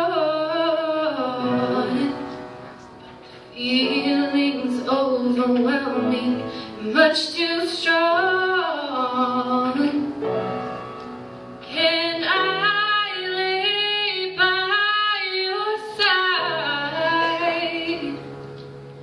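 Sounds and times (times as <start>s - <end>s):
woman singing a slow ballad: 0.0s - 2.4s, 3.5s - 10.2s, 11.6s - 18.3s
upright piano chords: 0.0s - 19.0s.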